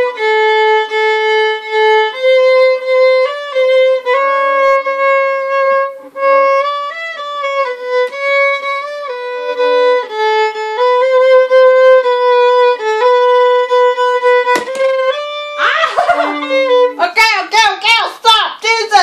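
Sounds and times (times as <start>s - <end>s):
solo violin melody: 0.0s - 17.9s.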